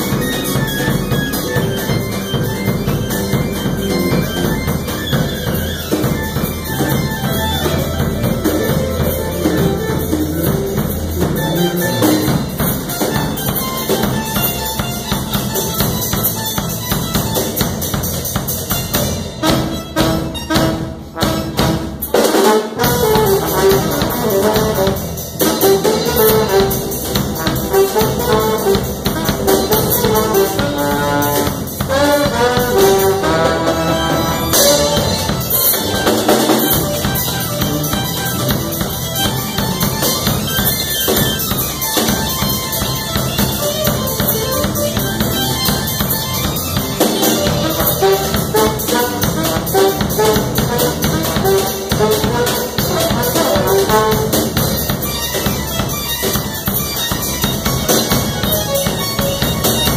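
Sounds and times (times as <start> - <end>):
electric keyboards: 0.0 - 59.9
trombone playing: 0.0 - 59.9.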